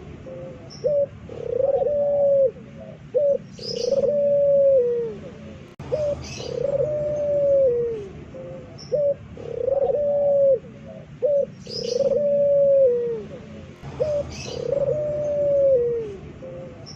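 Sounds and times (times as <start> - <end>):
dove cooing: 0.0 - 16.9.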